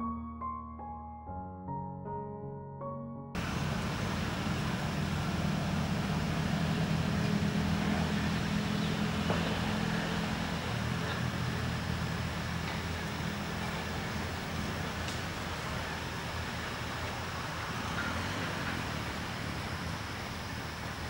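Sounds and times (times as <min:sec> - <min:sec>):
low engine hum: 0:03.4 - 0:21.0
outdoor background noise: 0:03.4 - 0:21.0.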